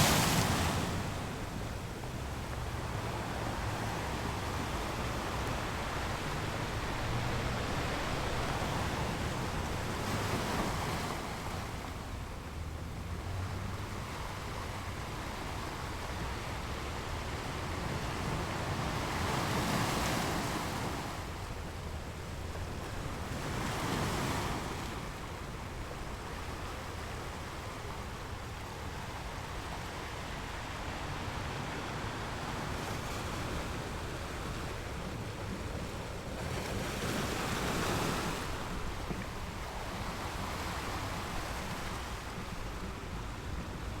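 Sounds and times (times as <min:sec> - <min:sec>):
ocean waves breaking: 0:00.0 - 0:44.0.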